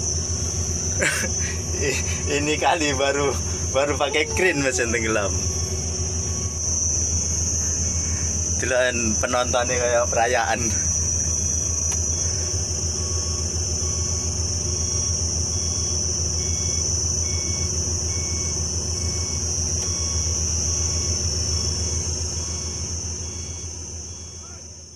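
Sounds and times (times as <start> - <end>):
diesel engine rumbling: 0.0 - 24.9
high-pitched insect drone: 0.0 - 24.9.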